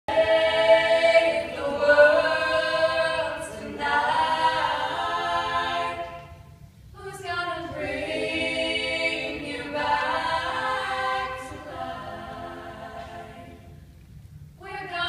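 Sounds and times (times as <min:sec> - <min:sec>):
mixed choir singing a cappella: 0:00.1 - 0:13.9, 0:14.6 - 0:15.0.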